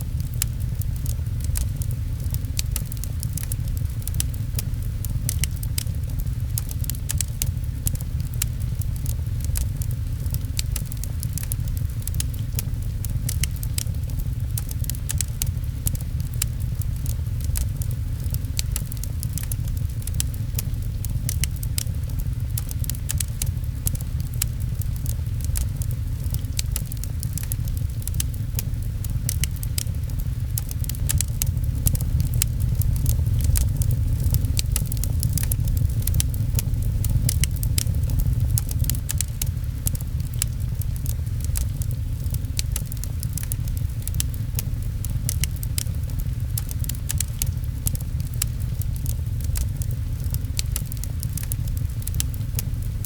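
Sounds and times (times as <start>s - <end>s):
fireplace crackling and popping: 0.0s - 53.0s
rain pattering: 0.0s - 53.0s
steady low rumble: 0.0s - 53.0s.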